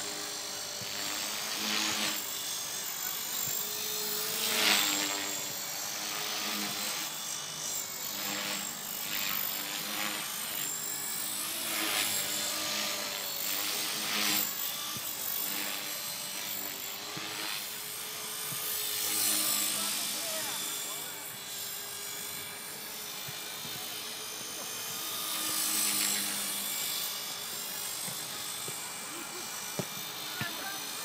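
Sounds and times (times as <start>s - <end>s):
rc helicopter motor and rotor whine: 0.0s - 31.0s.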